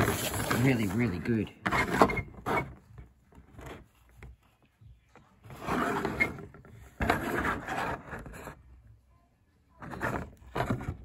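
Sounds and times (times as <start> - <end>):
plastic scraping on cardboard: 0.0 - 4.4, 5.4 - 8.7, 9.8 - 11.0.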